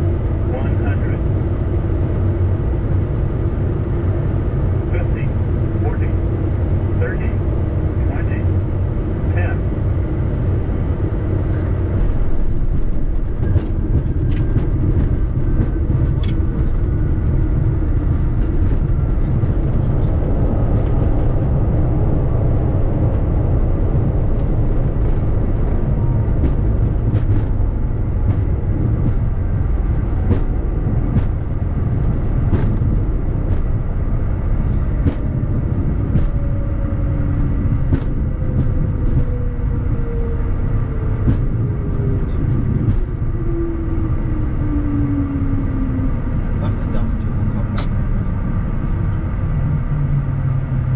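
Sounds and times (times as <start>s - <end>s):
engine whines falling in pitch: 0.0s - 50.9s
jet engines rumbling: 0.0s - 50.9s.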